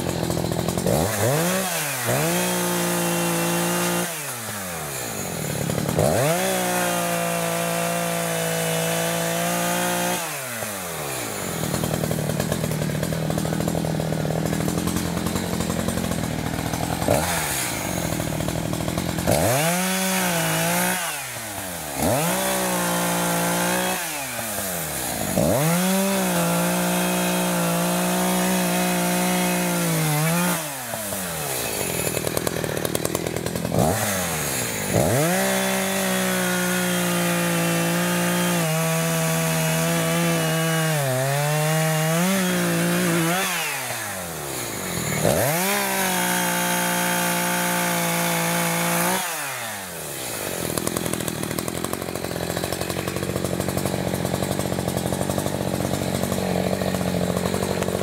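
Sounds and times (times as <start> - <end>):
chainsaw revving and cutting logs: 0.0 - 58.0.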